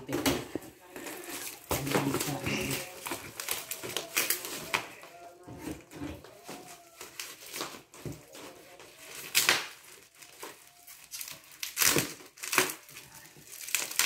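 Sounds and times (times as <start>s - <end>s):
plastic wrap and tape crinkling: 0.0s - 14.0s.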